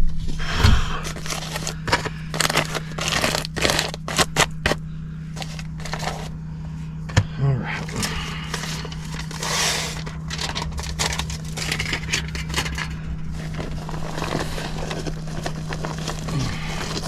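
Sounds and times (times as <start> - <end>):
steady low hum: 0.0 - 17.0
tools and parts being handled: 1.0 - 4.8, 5.4 - 6.3, 7.8 - 17.0.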